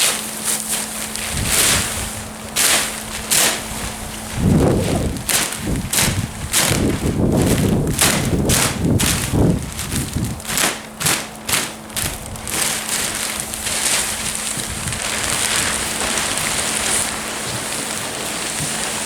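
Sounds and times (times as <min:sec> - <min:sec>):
plastic sheet crackling: 0:00.0 - 0:19.0.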